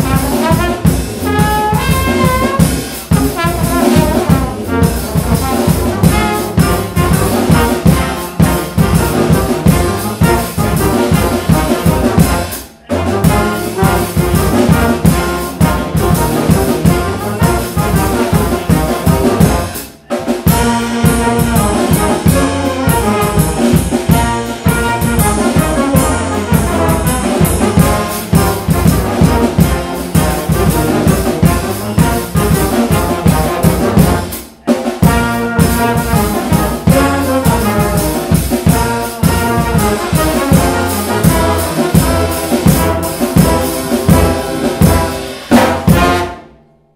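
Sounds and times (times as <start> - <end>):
brass band with drums playing: 0.0 - 46.9.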